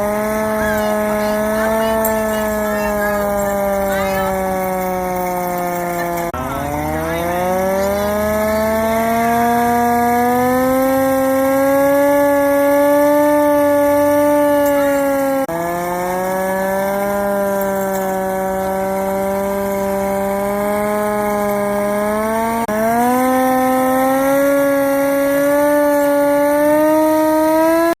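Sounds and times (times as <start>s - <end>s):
hand-cranked mechanical siren wailing: 0.0s - 28.0s.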